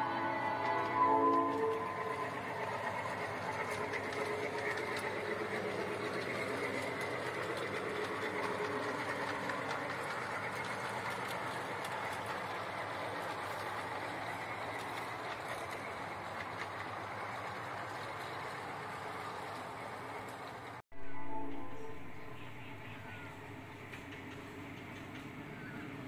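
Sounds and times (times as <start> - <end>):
small wheels clattering over rails: 0.4 - 20.8, 22.3 - 26.0.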